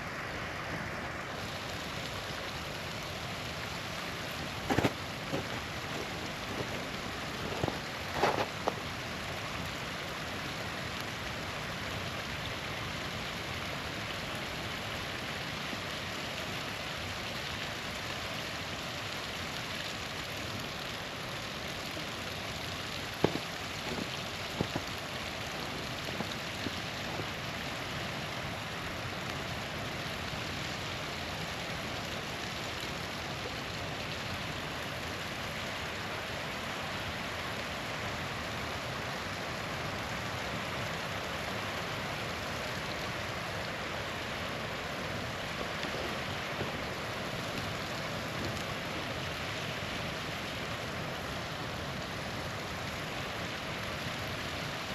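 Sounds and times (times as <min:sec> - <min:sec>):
small waterfall rushing: 0:00.0 - 0:54.9
campfire crackling and popping: 0:01.3 - 0:54.5.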